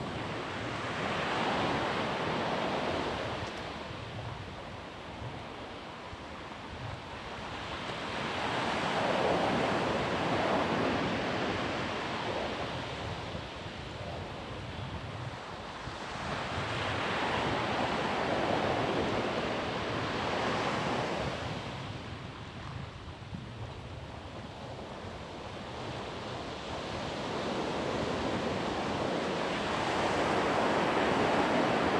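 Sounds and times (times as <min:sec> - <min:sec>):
ocean waves breaking on beach: 0:00.0 - 0:31.9.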